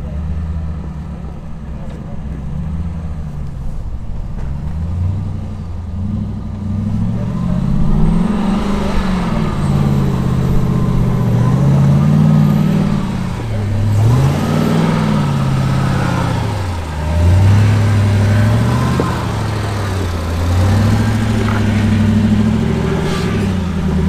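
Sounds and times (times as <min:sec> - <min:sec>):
engine revving under throttle: 0:04.7 - 0:24.0.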